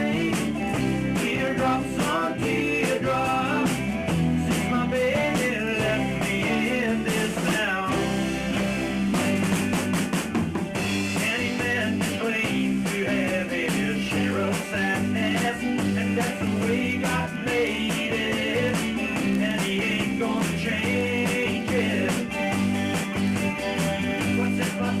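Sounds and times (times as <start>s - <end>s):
bass line: 0.0s - 25.0s
drum kit beat: 0.0s - 25.0s
electric guitar: 0.0s - 25.0s.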